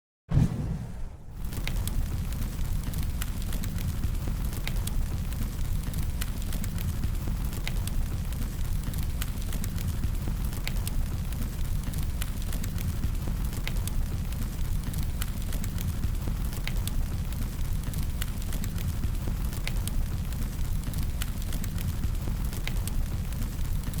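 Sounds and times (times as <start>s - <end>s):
fire crackling and rumbling: 0.3s - 24.0s.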